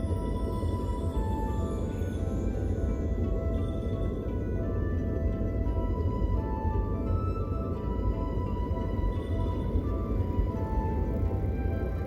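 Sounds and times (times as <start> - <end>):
slow melody of held notes: 0.0 - 12.0.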